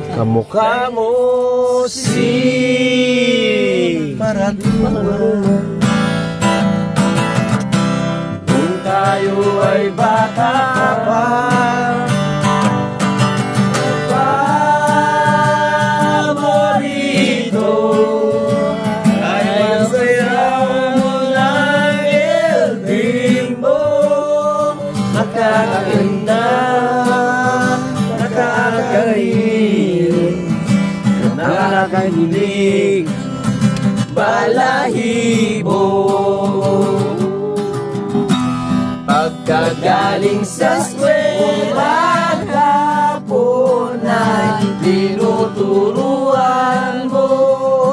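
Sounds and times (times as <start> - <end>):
man singing: 0.0 - 6.2, 8.4 - 12.7, 13.8 - 47.9
strummed acoustic guitar: 0.0 - 47.9.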